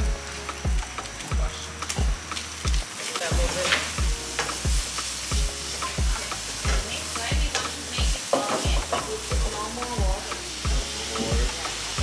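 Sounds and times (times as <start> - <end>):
food sizzling in frying pans: 0.0 - 12.0
music with bass drum beat: 0.0 - 12.0.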